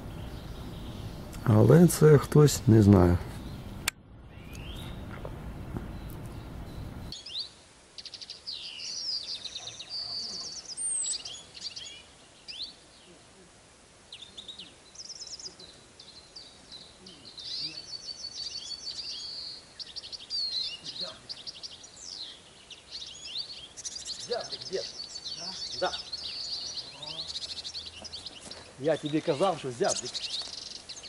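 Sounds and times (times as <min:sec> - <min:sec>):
songbirds singing trills: 0:00.0 - 0:31.0.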